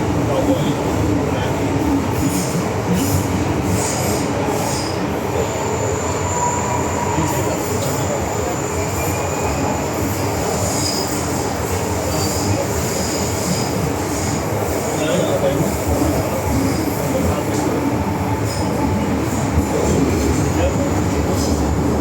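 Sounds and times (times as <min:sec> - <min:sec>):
train wheels and motors rumbling: 0:00.0 - 0:22.0.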